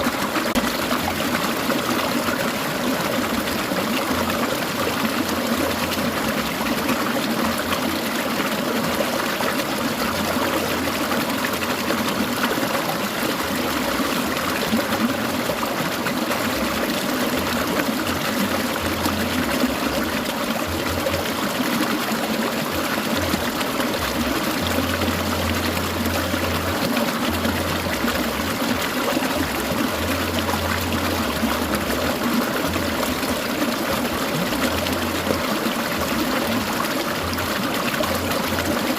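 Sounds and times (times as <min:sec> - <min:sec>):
stream water trickling and babbling: 0:00.0 - 0:38.9.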